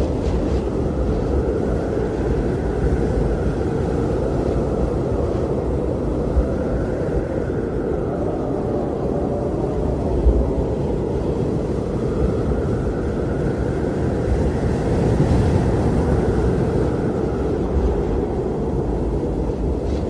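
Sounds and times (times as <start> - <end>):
blizzard wind rumbling: 0.0 - 20.0
faint wind whistle: 0.0 - 20.0.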